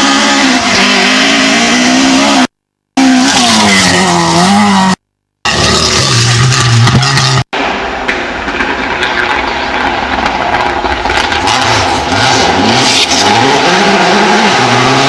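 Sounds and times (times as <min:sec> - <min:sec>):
rally car engine revving: 0:00.0 - 0:07.5, 0:09.0 - 0:15.0.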